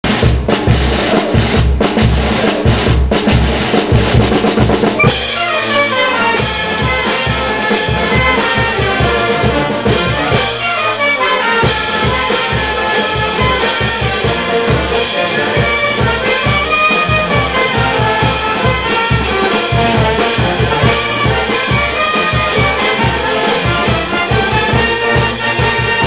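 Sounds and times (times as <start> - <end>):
brass band playing: 0.0 - 26.0.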